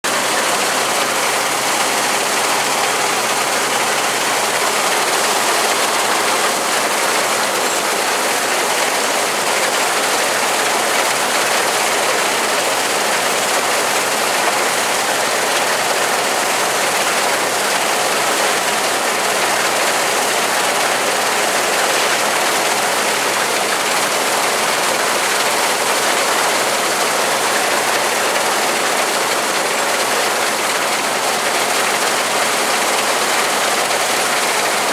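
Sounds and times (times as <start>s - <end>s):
combine harvester running: 0.0s - 34.9s.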